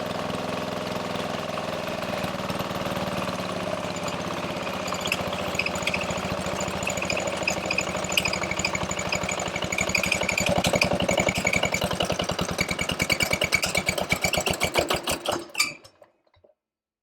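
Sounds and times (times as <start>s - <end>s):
diesel generator engine running: 0.0s - 14.4s.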